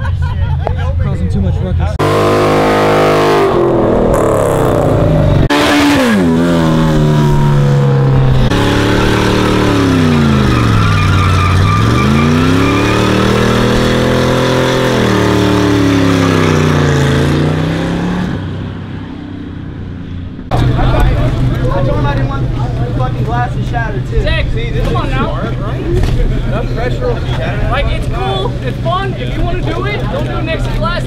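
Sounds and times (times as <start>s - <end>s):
car engines revving hard: 1.8s - 31.0s.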